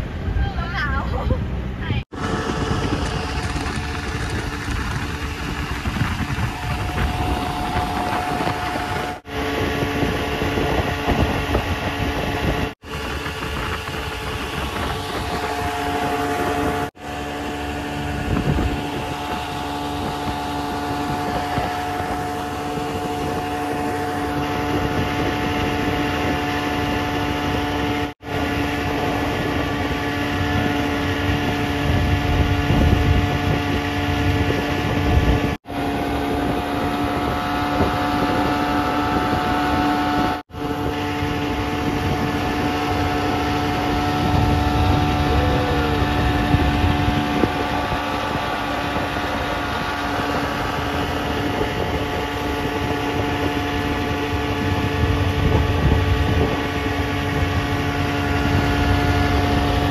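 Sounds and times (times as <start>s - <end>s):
motorboat engine humming: 0.0s - 59.9s
wind and water rushing: 0.0s - 59.9s.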